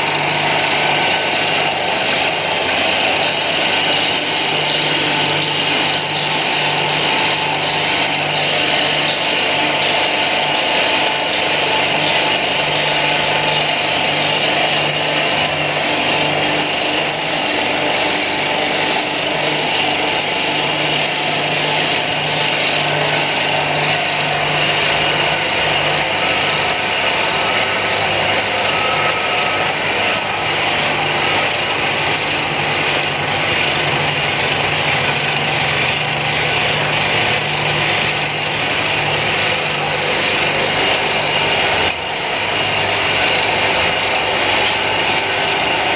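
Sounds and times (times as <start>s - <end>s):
machine motor humming: 0.0s - 45.9s.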